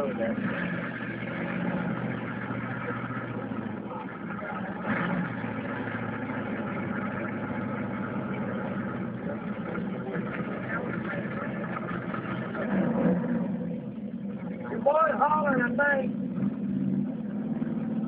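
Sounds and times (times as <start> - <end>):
truck engines droning: 0.0 - 18.0.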